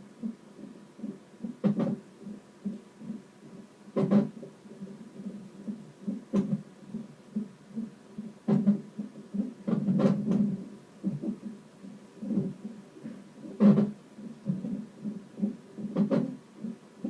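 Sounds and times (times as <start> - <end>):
fetal heartbeat on doppler monitor: 0.0 - 17.0.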